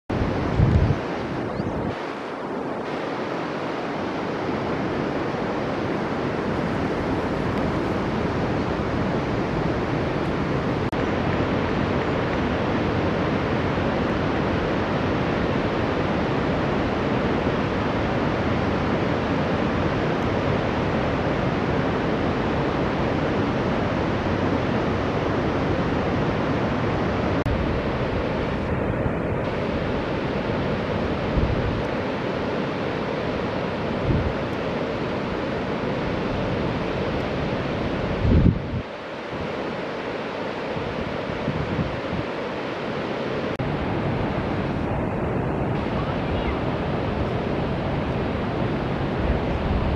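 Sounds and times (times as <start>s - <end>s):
river water over rapids: 0.1s - 49.9s.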